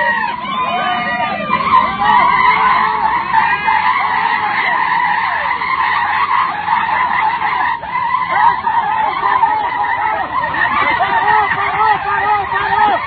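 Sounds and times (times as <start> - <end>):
engine running at high revs: 0.0 - 13.0.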